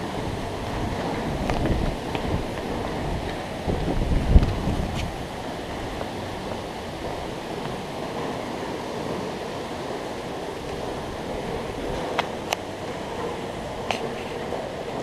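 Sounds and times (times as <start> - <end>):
waterfall rushing into pools: 0.0 - 15.0.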